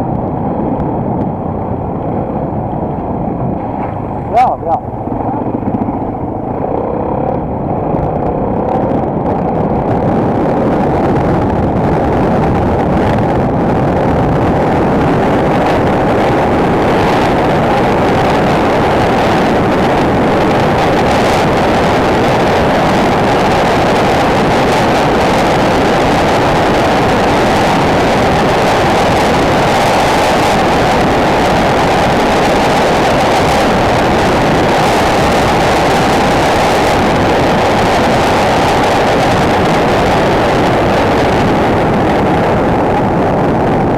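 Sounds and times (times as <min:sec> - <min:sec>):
motorcycle engine under load: 0:00.0 - 0:43.9
road noise: 0:00.0 - 0:43.9
wind: 0:00.0 - 0:43.9.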